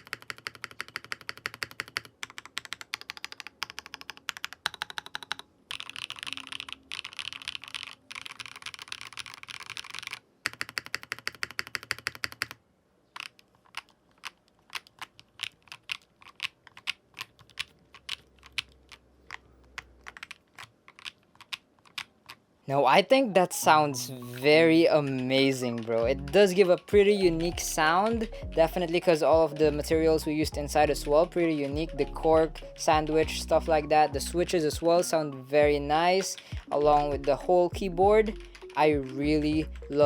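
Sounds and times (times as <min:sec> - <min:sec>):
mechanical keyboard typing: 0:00.0 - 0:22.4, 0:24.3 - 0:29.6, 0:30.3 - 0:35.2, 0:35.9 - 0:40.0.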